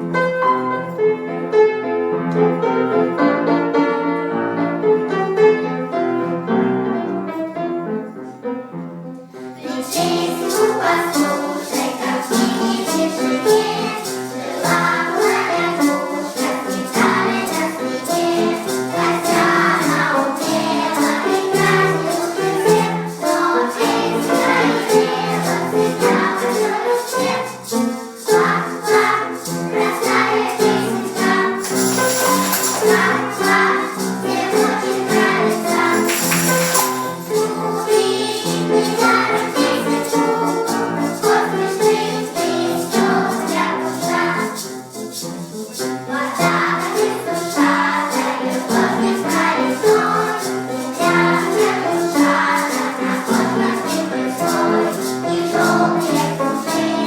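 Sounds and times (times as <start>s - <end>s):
children's choir singing: 0.0s - 57.0s
shaken percussion: 9.6s - 57.0s.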